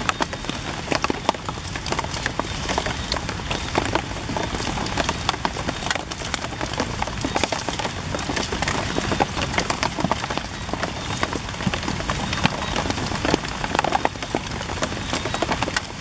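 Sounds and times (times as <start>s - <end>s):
rain drop hits: 0.0s - 16.0s
rain on leaves and grass: 0.0s - 16.0s.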